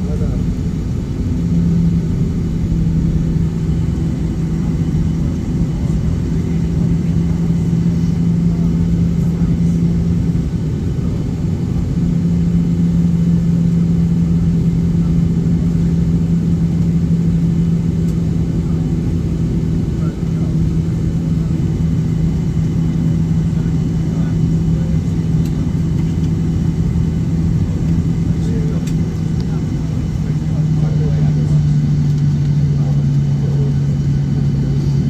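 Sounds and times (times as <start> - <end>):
airplane cabin engine rumble: 0.0 - 35.0
low steady hum: 0.0 - 35.0.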